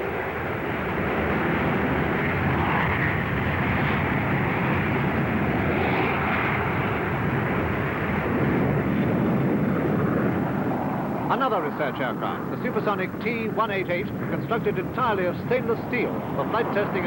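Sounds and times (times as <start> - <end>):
jet flying past: 0.0 - 17.0.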